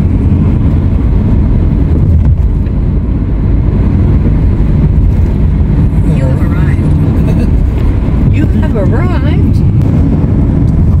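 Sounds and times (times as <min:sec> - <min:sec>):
car driving interior rumble: 0:00.0 - 0:11.0.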